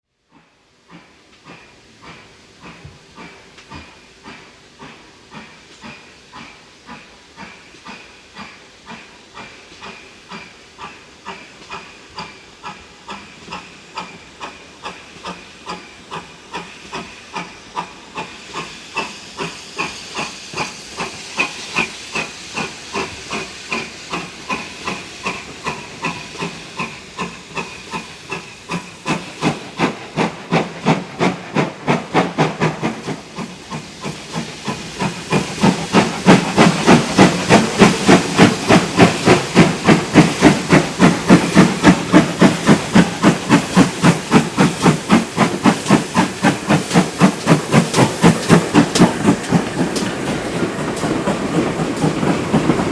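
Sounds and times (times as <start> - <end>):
steam locomotive exhaust beat: 0.2 - 52.9.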